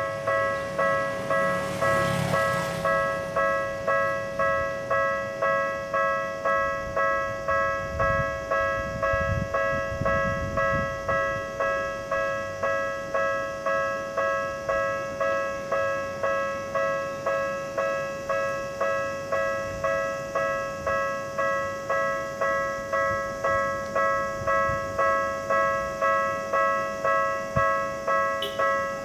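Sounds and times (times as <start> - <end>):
level crossing warning bell: 0.0 - 29.0.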